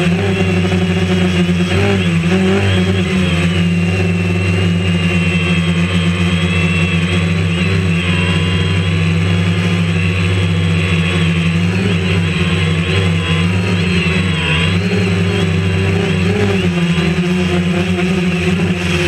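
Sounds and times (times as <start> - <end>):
drone propellers buzzing: 0.0 - 19.0.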